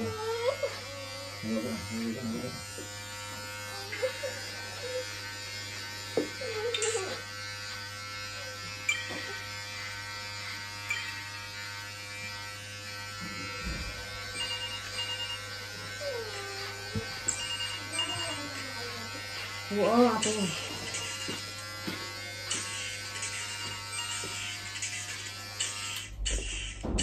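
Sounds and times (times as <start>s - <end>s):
electric hair clippers buzzing: 0.0s - 26.9s.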